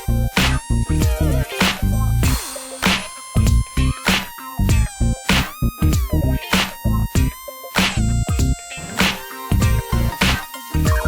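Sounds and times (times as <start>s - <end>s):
electronic music with thumping beat: 0.0s - 11.0s.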